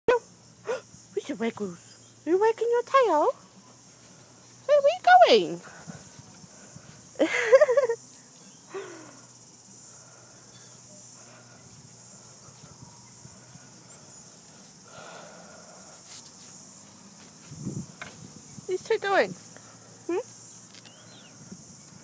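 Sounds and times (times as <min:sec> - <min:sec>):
insect chorus: 0:00.1 - 0:22.0.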